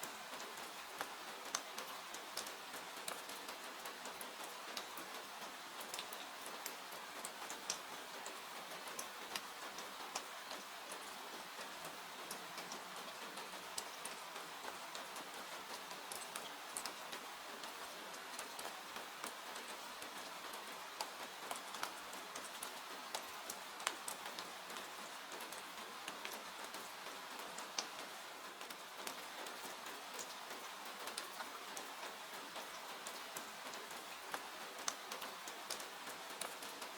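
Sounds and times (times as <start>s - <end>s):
steady rain hiss: 0.0s - 36.9s.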